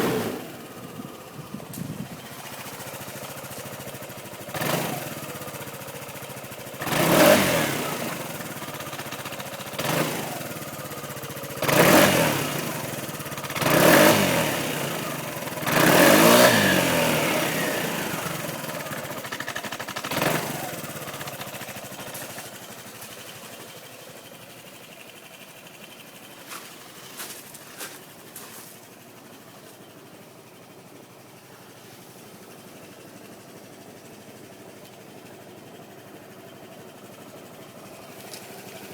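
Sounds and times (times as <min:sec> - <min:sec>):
scooter engine revving and idling: 0:00.0 - 0:38.9.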